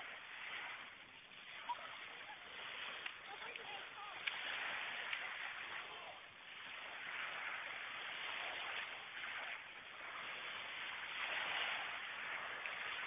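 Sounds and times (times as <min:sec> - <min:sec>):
waves washing on pebbles: 0:00.0 - 0:13.0.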